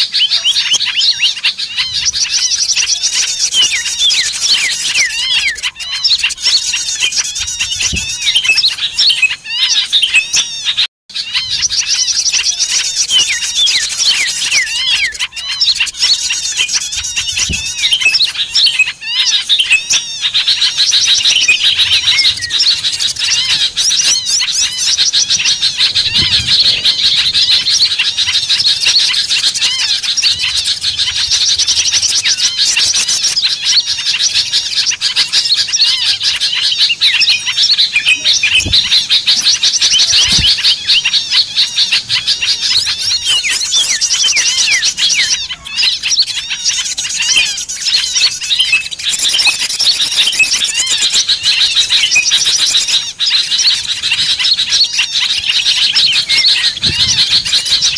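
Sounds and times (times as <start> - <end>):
chorus of songbirds chirping: 0.0 - 57.9.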